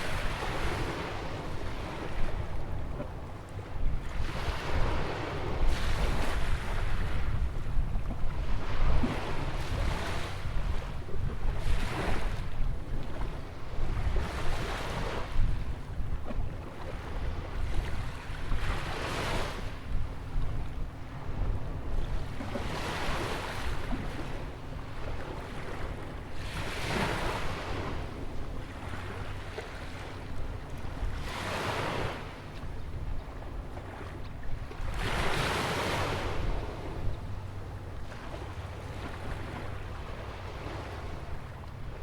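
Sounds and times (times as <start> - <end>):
constant low rumble: 0.0 - 42.0.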